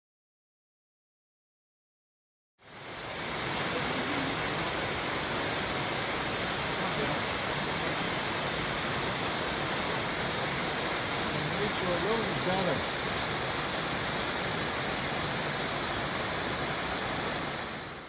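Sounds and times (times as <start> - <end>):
stream water rushing: 2.6 - 18.0.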